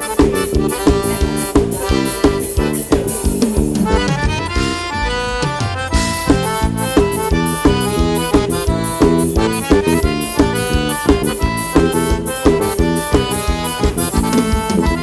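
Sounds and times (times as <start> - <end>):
accordion melody: 0.0 - 15.0
percussion beat: 0.0 - 15.0.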